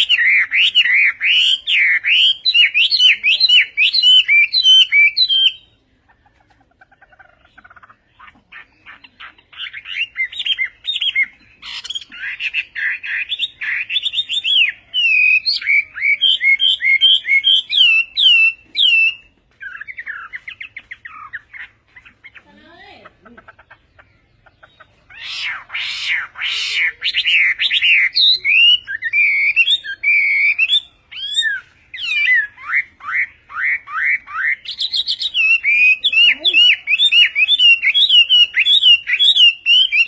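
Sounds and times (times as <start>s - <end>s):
bird singing whistled notes: 0.0s - 5.8s, 8.6s - 22.4s, 24.3s - 40.0s.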